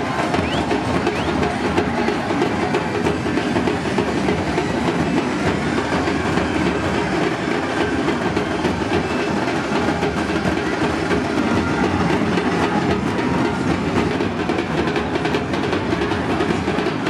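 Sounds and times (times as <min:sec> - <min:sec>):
crowd din: 0:00.0 - 0:17.0
rapid drumming: 0:00.0 - 0:17.0.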